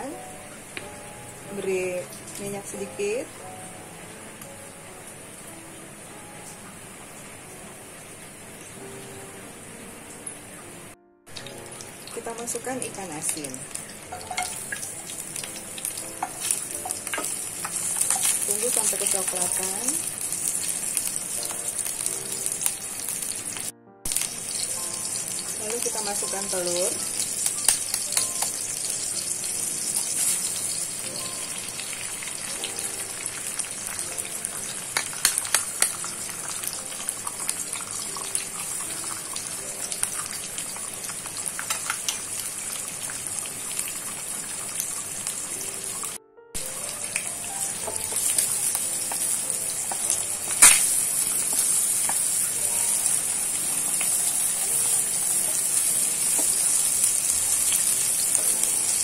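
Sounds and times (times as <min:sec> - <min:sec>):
food sizzling in hot oil: 0:00.0 - 0:06.6, 0:11.3 - 0:59.0.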